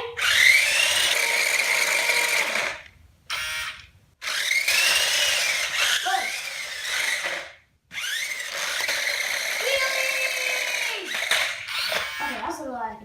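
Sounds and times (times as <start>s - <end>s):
toy car electric motor whining: 0.2s - 12.4s.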